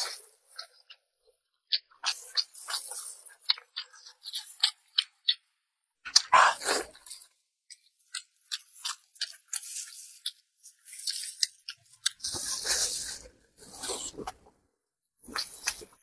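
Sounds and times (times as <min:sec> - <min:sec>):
wet chewing: 0:00.0 - 0:14.6, 0:15.2 - 0:16.0
mouth clicks and smacks: 0:01.6 - 0:14.5, 0:15.2 - 0:16.0.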